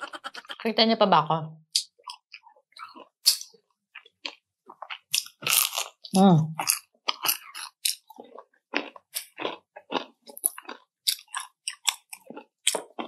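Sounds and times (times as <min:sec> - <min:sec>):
chewing crispy chicken skin: 0:02.0 - 0:13.0.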